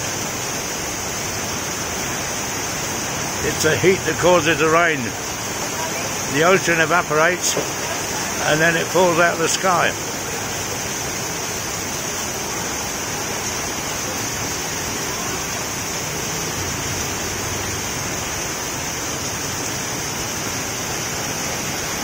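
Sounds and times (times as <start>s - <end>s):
heavy rain on street: 0.0s - 22.0s
water pouring off an awning: 0.0s - 22.0s.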